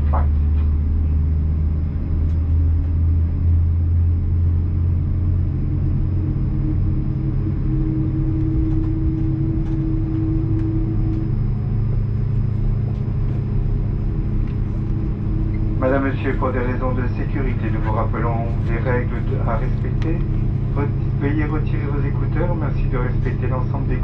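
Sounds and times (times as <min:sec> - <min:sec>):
aircraft cabin drone: 0:00.0 - 0:24.0
higher steady hum: 0:00.0 - 0:24.0.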